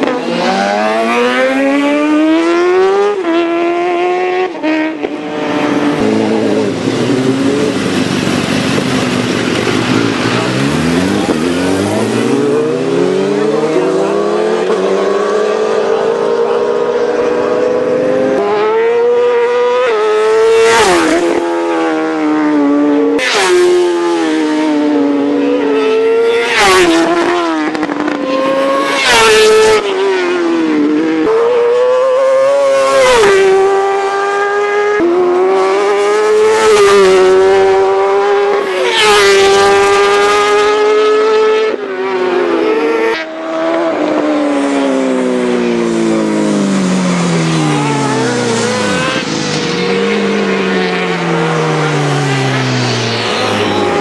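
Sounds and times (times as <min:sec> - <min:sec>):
racing motorcycles passing: 0:00.0 - 0:54.0.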